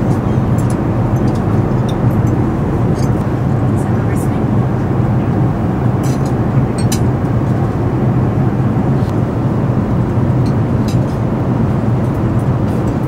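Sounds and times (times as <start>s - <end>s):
airliner cabin roar: 0.0s - 13.0s.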